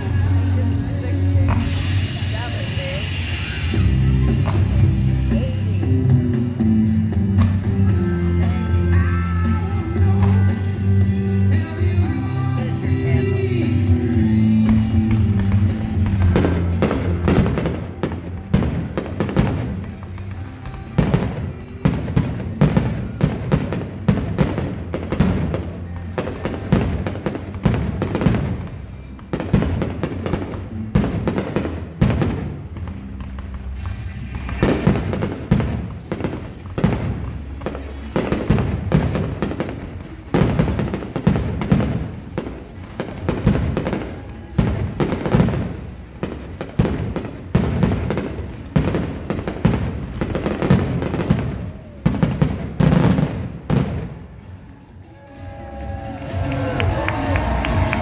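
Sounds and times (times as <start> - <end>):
fireworks bursting: 0.0 - 58.0
music playing: 0.0 - 58.0.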